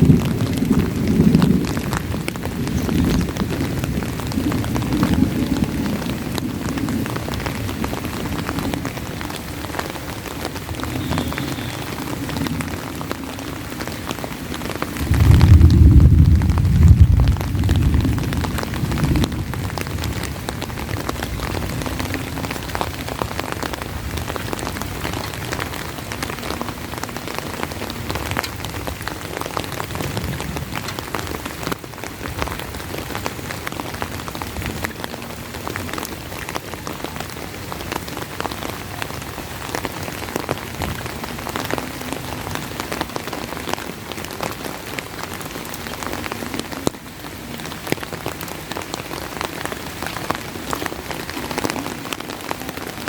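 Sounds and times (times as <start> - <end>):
heavy rain: 0.0 - 53.0
rain drops hitting microphone: 0.0 - 53.0
thunder rumbling: 0.0 - 53.0.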